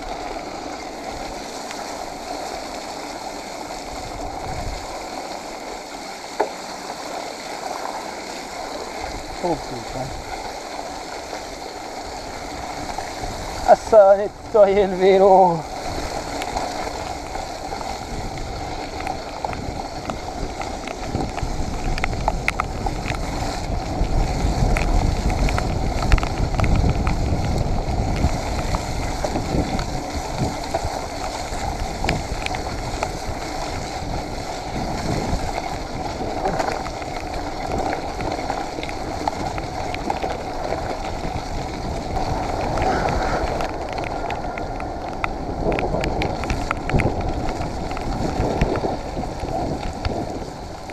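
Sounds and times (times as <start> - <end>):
tyres rumbling on wet ground: 0.0 - 50.9
wind noise on microphone: 3.4 - 5.2, 8.8 - 50.9.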